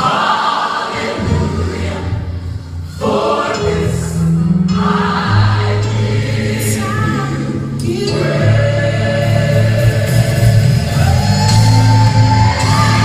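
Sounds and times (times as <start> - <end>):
group singing gospel in harmony: 0.0 - 13.0
bass accompaniment: 1.0 - 13.0.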